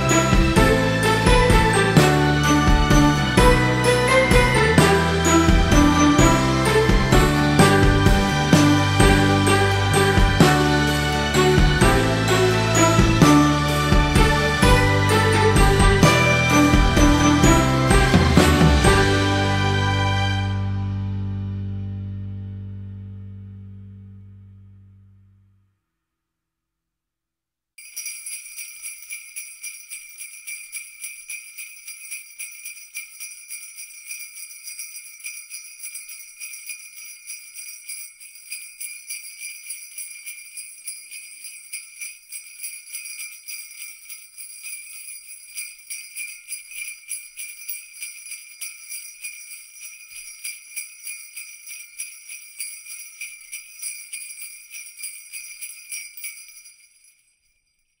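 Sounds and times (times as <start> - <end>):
jingle bells shaking: 0.0 - 20.6, 27.8 - 58.0.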